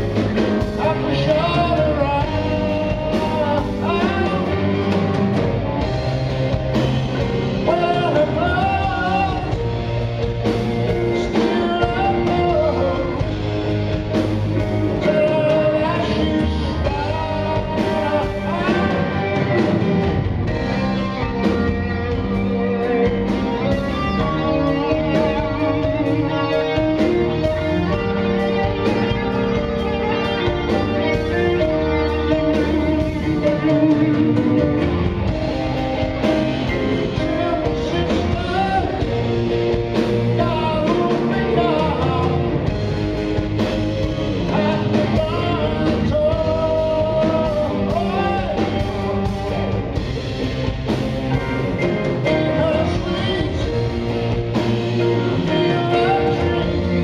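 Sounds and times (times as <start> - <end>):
bass guitar: 0.0 - 57.0
drums: 0.0 - 57.0
electric guitar lead: 0.0 - 57.0
keyboards: 0.0 - 57.0.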